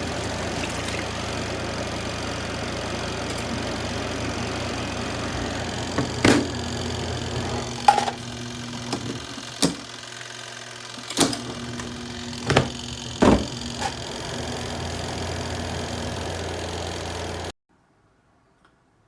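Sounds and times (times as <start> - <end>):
washing machine motor humming: 0.0 - 17.6.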